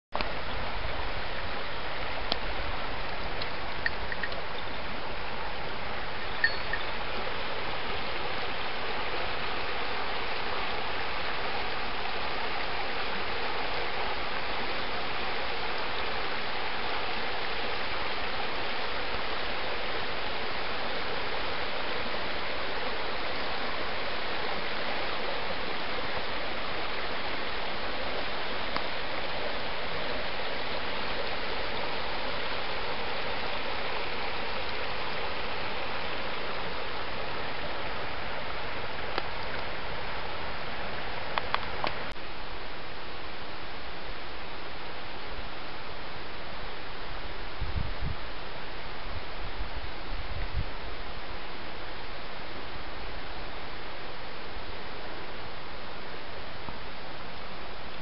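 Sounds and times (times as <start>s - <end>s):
river running over stones: 0.2s - 47.6s.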